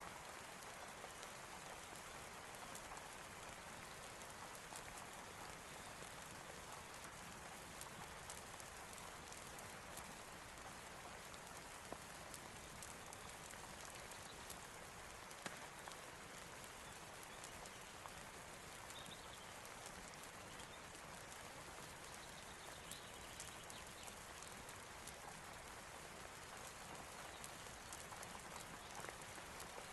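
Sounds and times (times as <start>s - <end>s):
crackling fire: 0.0s - 29.9s
steady rain hiss: 0.0s - 29.9s.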